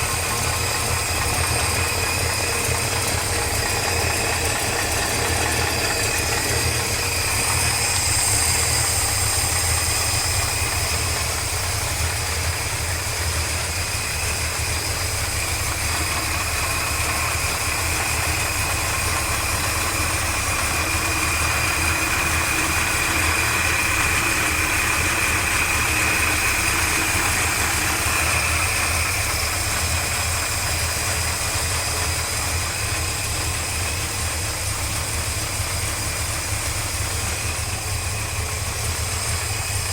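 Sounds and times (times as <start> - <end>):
engine idling with whine: 0.0 - 39.9.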